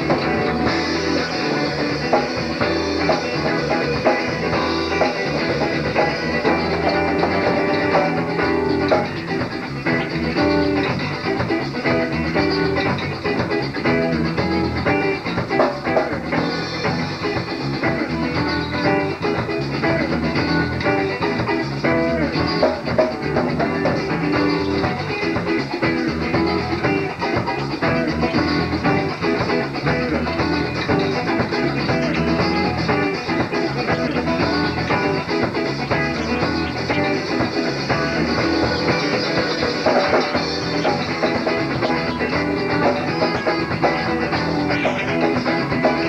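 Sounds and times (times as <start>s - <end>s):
bass guitar: 0.0s - 46.0s
drum kit: 0.0s - 46.0s
lead electric guitar: 0.0s - 46.0s
rock band playing: 0.0s - 46.0s.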